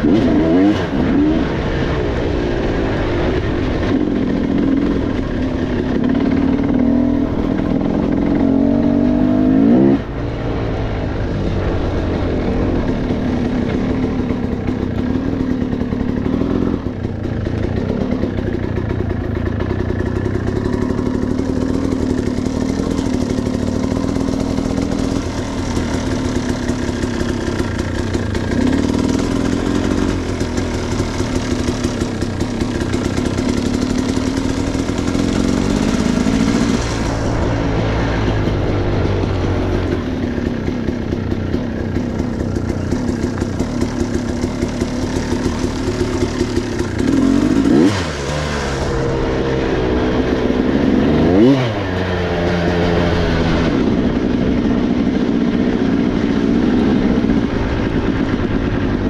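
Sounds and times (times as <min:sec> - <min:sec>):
motorcycle engine revving: 0:00.0 - 0:59.0
motorcycle engine running: 0:00.0 - 0:59.0.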